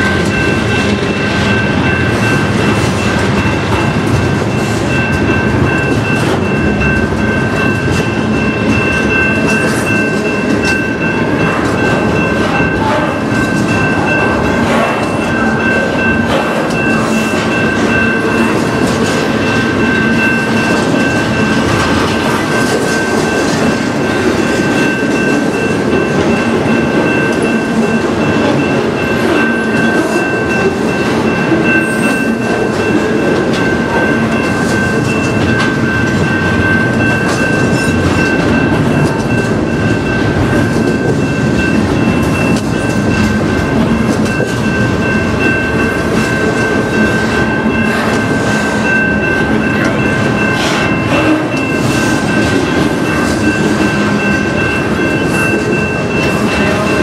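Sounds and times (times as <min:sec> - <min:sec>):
freight train wheels rumbling: 0:00.0 - 0:57.0
steady high-pitched tone: 0:00.0 - 0:57.0.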